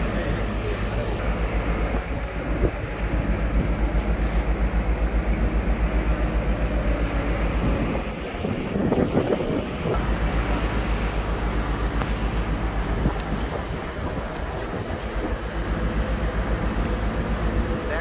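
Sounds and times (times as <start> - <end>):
ship diesel machinery drone: 0.0 - 18.0.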